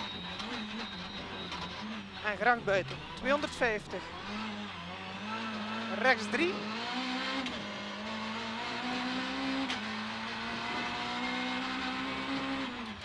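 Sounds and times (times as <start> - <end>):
rally car engine at full throttle: 0.0 - 13.0.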